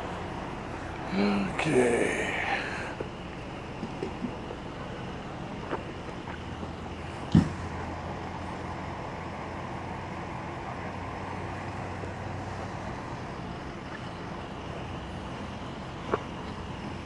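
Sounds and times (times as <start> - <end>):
emergency vehicles idling: 0.0 - 17.0.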